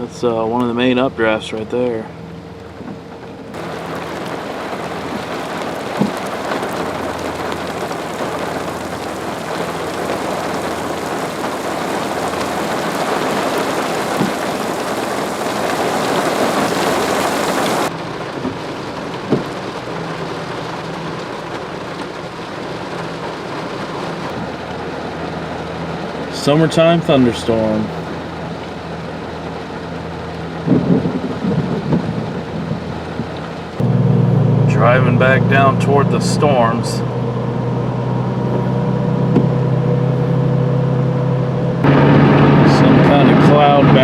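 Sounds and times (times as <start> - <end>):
heavy rain pelting a car: 2.6 - 44.0.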